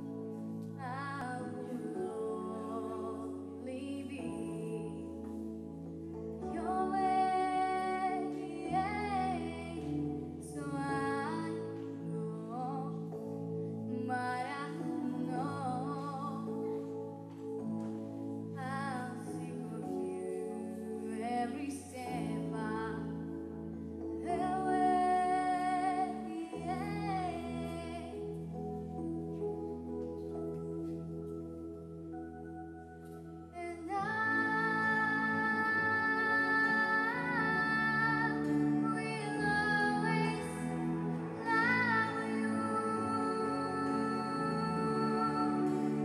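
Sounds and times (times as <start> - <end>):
girl singing into a microphone: 0.7 - 5.5, 6.1 - 17.4, 18.4 - 28.6, 33.5 - 46.0.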